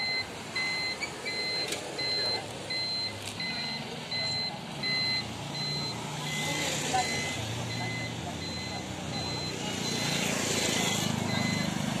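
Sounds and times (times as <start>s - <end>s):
electronic warning beeps: 0.0s - 11.8s.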